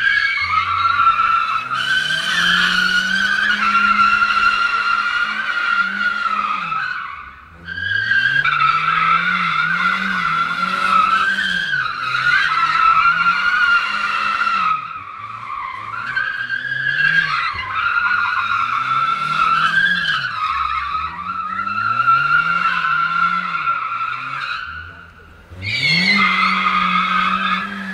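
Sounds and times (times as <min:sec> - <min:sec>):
car engine revving: 0:00.0 - 0:27.9
tyre squeal: 0:00.0 - 0:27.9.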